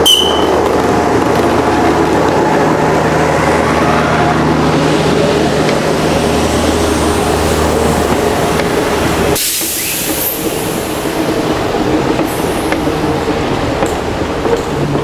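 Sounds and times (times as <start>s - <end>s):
subway cars rolling past: 0.0s - 15.0s
wheels clicking on track: 0.0s - 15.0s.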